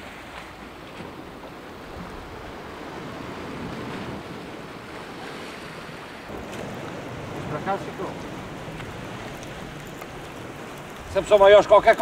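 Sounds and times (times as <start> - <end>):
sea washing against rocks: 0.0 - 12.0.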